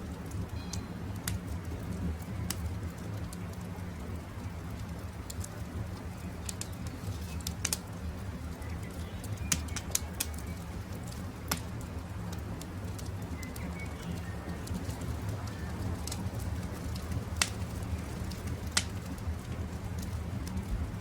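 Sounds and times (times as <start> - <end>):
campfire crackling: 0.0 - 21.0
faint birdsong: 0.3 - 11.4, 12.0 - 18.4.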